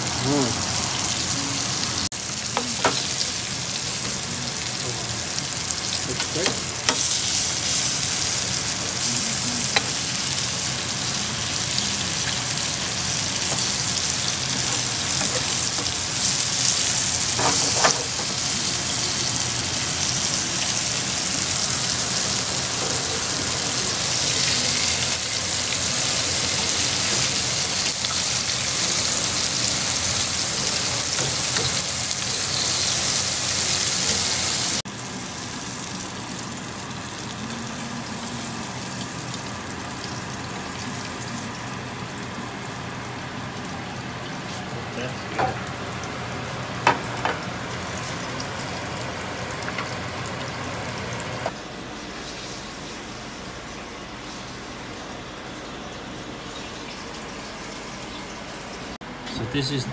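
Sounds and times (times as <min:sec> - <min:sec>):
meat sizzling in oil: 0:00.0 - 0:59.0.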